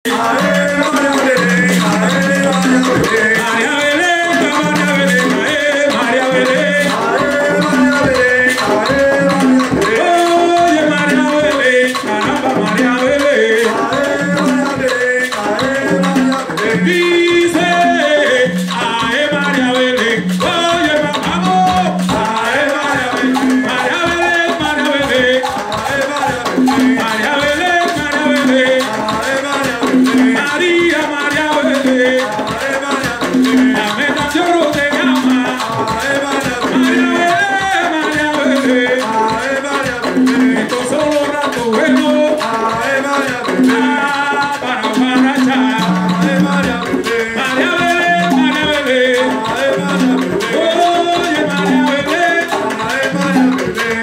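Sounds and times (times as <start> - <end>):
conga drums: 0.0 - 54.0
person singing: 0.0 - 54.0.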